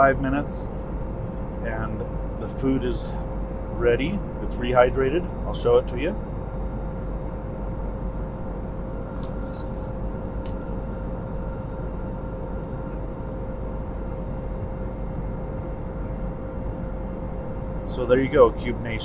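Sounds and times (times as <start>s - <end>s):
airliner cabin drone: 0.0s - 19.0s.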